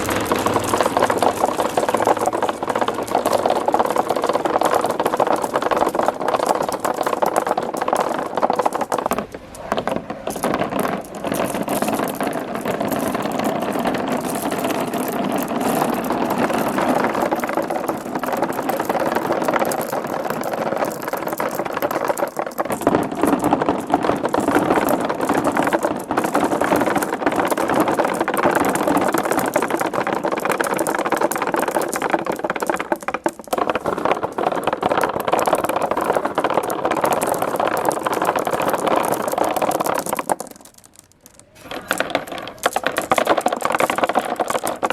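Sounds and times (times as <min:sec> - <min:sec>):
marbles rolling on tracks: 0:00.0 - 0:44.9.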